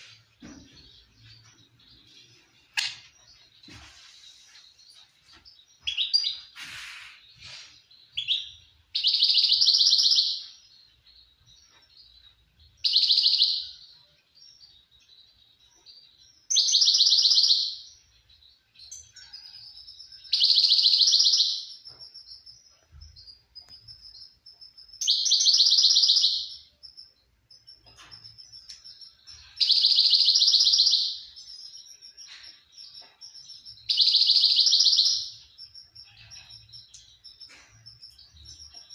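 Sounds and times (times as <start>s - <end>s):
quiet bird twittering: 0.0s - 38.9s.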